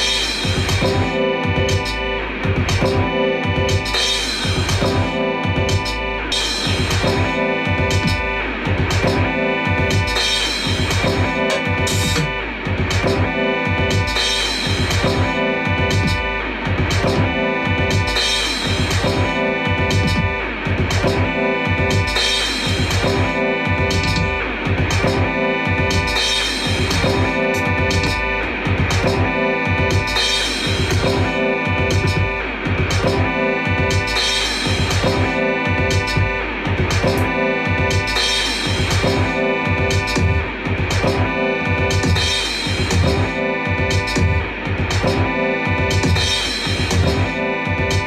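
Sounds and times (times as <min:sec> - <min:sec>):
looped instrumental beat: 0:00.0 - 0:48.0.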